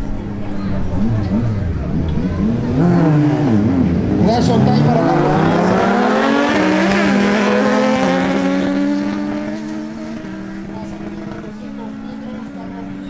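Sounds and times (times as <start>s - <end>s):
motorcycle engines accelerating: 0.0s - 13.0s.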